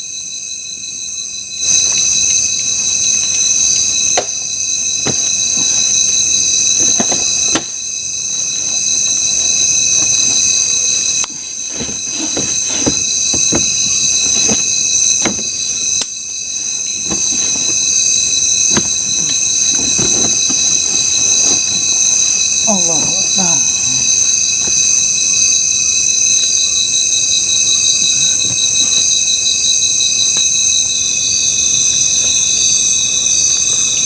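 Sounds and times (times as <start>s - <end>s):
insects buzzing chorus: 0.0s - 34.0s.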